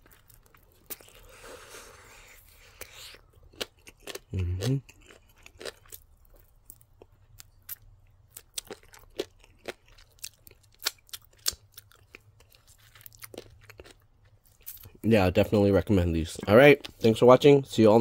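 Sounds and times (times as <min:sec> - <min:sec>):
chewing and crunching: 0:00.0 - 0:15.0.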